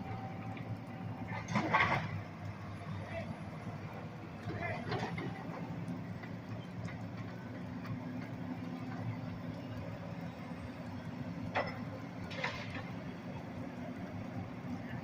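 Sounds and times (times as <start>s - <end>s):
distant diesel engine running: 0.0s - 15.0s.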